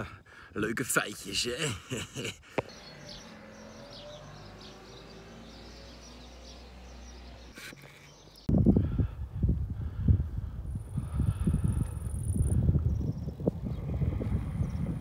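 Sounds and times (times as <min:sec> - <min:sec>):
small birds chirping: 0:00.6 - 0:08.7, 0:10.7 - 0:15.0.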